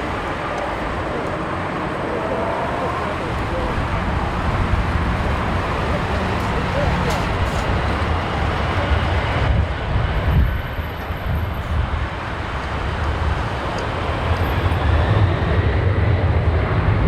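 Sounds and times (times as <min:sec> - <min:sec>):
jet engines low rumble: 0:00.0 - 0:17.0
wind noise on microphone: 0:00.0 - 0:17.0.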